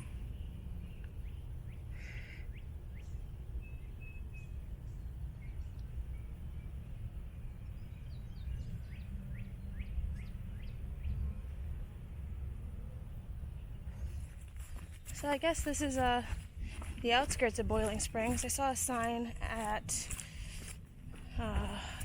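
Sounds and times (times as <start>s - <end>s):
birds chirping: 0.0s - 22.0s
low rumble: 2.7s - 22.0s.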